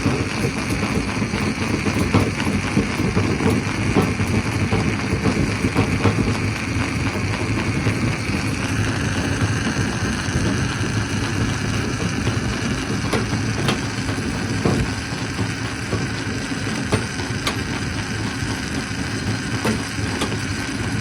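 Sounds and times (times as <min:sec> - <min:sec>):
stone crusher running: 0:00.0 - 0:21.0.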